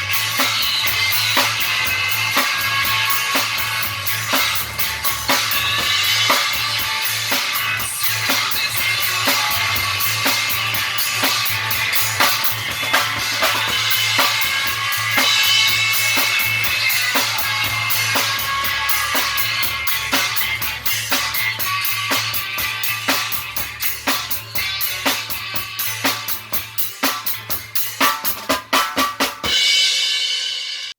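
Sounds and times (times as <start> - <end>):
guitar: 0.0 - 30.4
drum kit beat: 0.0 - 30.9
rock band playing: 0.0 - 30.9.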